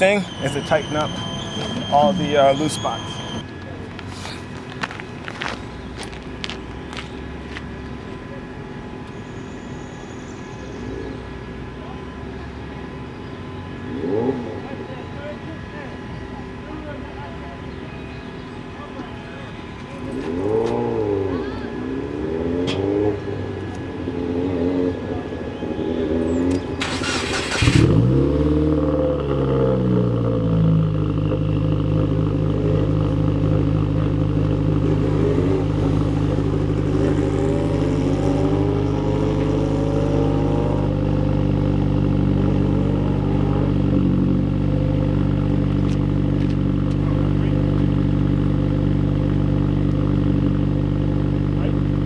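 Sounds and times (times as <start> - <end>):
car engine starting and idling: 0.0 - 52.0.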